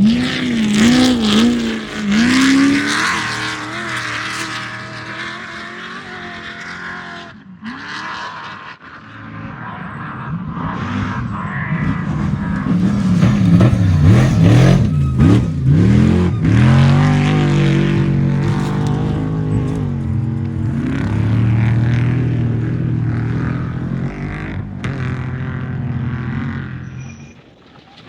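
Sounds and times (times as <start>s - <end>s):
race vehicle engine revving: 0.0s - 28.0s.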